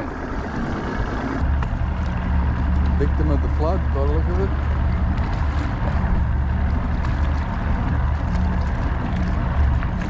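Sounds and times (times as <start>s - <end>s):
boat engine low rumble: 0.0s - 10.0s
water noise: 0.0s - 10.0s.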